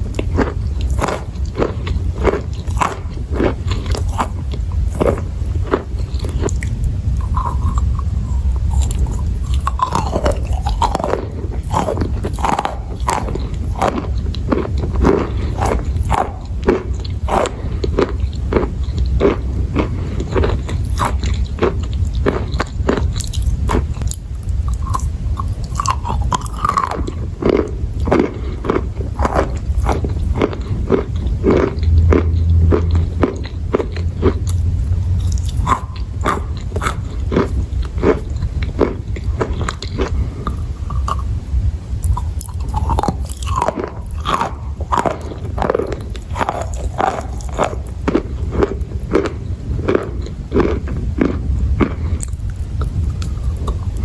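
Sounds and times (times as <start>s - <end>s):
chewing crunches: 0.0s - 54.0s
steady low hum: 0.0s - 54.0s.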